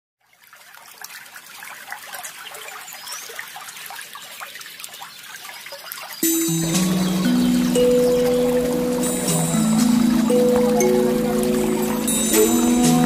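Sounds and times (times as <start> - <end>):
water trickling and splashing: 0.2 - 13.0.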